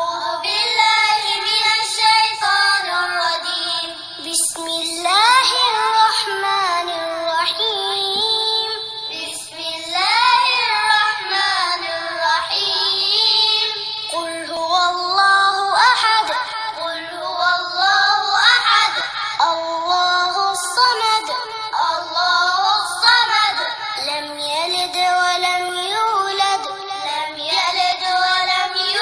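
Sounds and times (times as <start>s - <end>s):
child chanting recitation: 0.0s - 29.0s.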